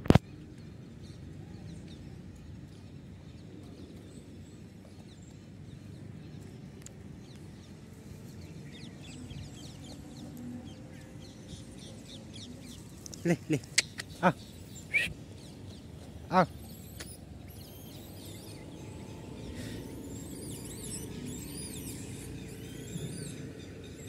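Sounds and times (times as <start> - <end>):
birds chirping: 0.7 - 24.0.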